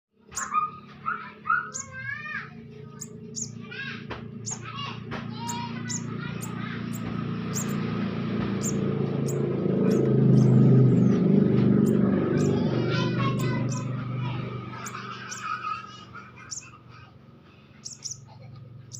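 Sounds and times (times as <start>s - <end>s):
baby birds chirping: 0.2s - 17.1s, 17.7s - 18.9s
steady low hum: 0.2s - 18.9s.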